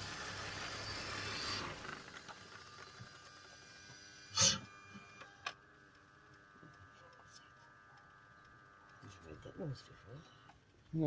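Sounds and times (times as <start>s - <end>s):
faint steady whining tones: 0.0s - 11.0s.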